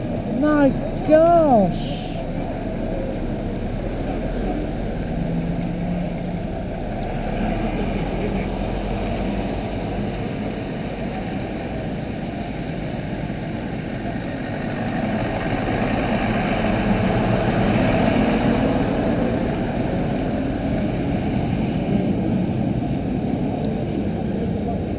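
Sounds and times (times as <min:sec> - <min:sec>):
lorry diesel engines running: 0:00.0 - 0:24.9.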